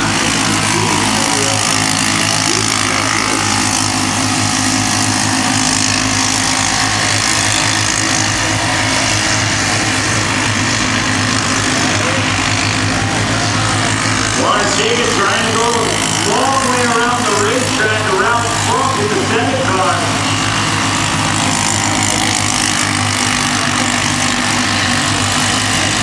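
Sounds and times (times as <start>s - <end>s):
mini race truck engines: 0.0s - 26.0s.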